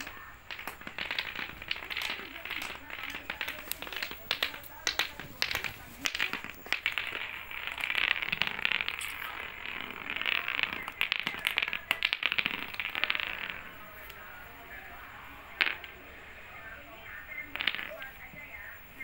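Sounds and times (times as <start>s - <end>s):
clacker toy balls clacking: 0.0s - 16.2s, 17.2s - 18.8s.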